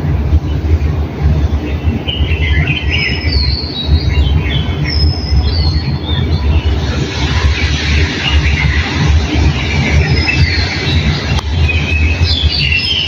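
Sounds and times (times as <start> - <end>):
low rumble: 0.0 - 13.0
songbirds chirping and whistling: 1.5 - 13.0.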